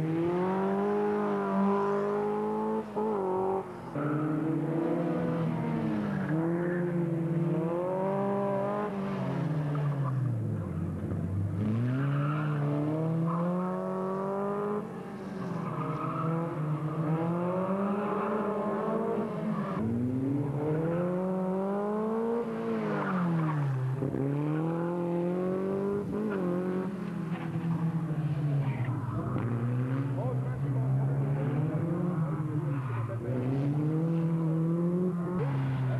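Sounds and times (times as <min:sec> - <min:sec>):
race car engine revving: 0:00.0 - 0:35.9.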